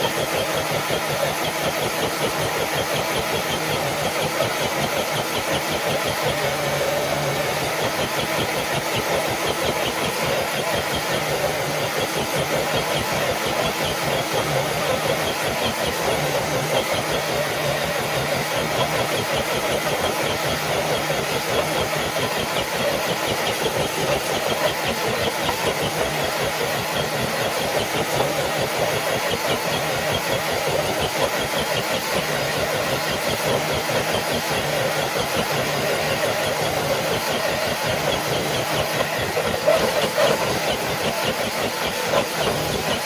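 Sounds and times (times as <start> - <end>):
toy truck electric motor running: 0.0 - 43.0.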